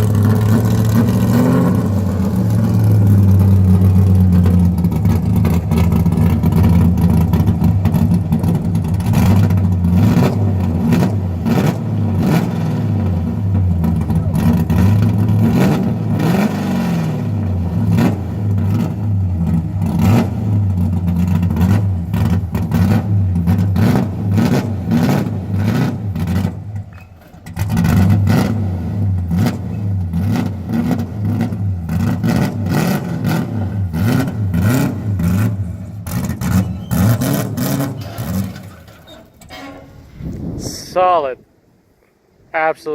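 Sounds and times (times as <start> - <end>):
car engine droning: 0.0 - 41.0.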